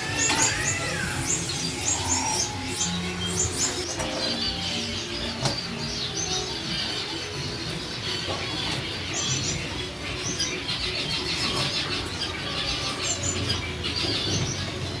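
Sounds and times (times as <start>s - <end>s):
canaries chirping: 0.0s - 15.0s.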